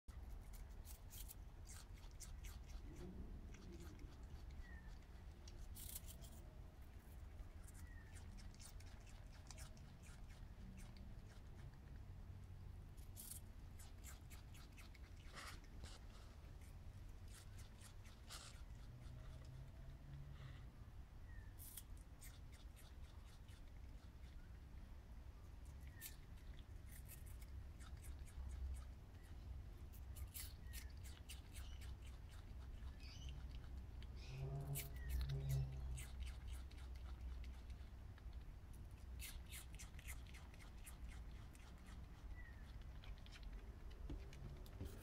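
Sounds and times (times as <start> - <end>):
possum chewing food: 0.1 - 20.5, 21.4 - 45.0.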